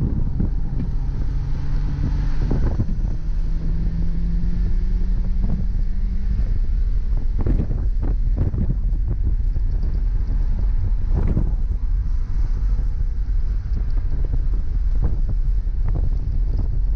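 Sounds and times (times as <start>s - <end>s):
car engine running: 0.0s - 16.9s
road rumble: 0.0s - 16.9s
wind buffeting microphone: 0.0s - 16.9s.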